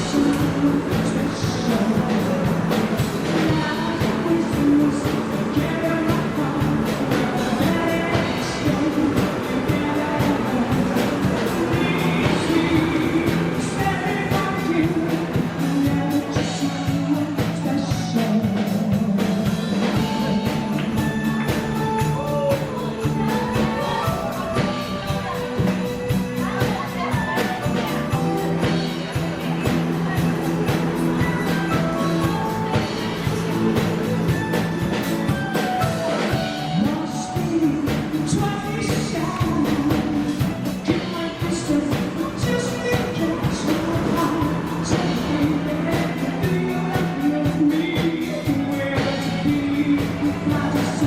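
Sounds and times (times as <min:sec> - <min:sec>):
drum kit beat: 0:00.0 - 0:51.0
guitar: 0:00.0 - 0:51.0
keyboard: 0:00.0 - 0:51.0
live rock band playing: 0:00.0 - 0:51.0
person singing: 0:00.0 - 0:51.0.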